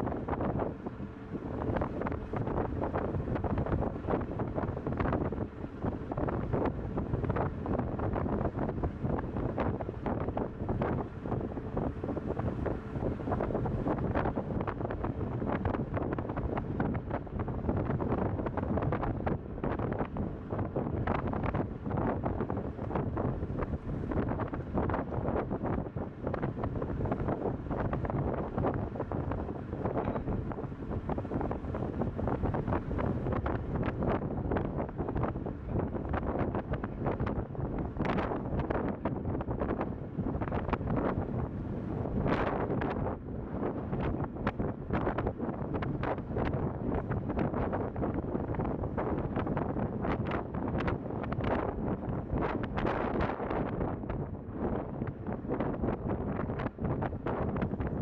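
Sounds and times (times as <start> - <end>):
faint ship engine hum: 0.0 - 58.0
wind buffeting microphone: 0.0 - 58.0.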